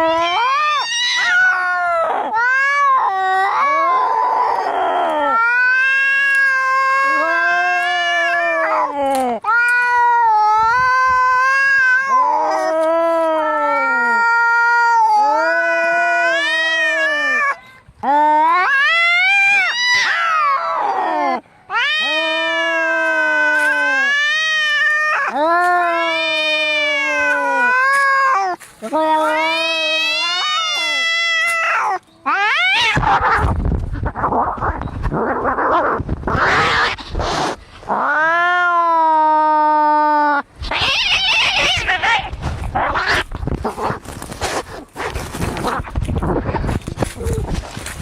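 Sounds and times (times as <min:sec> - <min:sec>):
angry cat yowling: 0:00.0 - 0:44.2.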